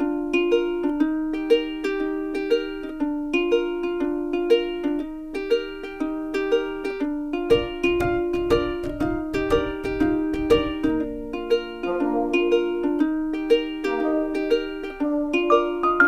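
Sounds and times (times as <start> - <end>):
plucked-string tune: 0.0 - 16.0.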